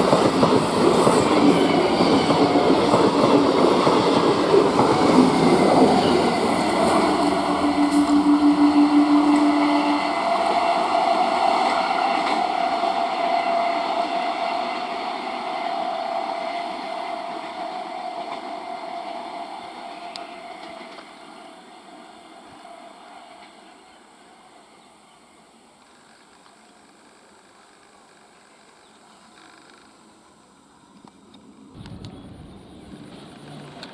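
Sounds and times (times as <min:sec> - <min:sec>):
electric train running past: 0:00.0 - 0:33.9.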